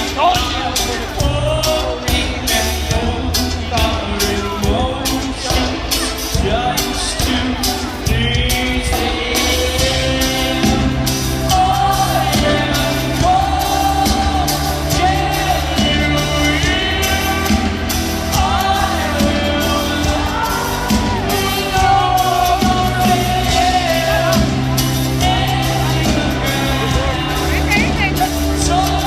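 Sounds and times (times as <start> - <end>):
live band music: 0.0 - 29.0
man singing: 0.0 - 29.0.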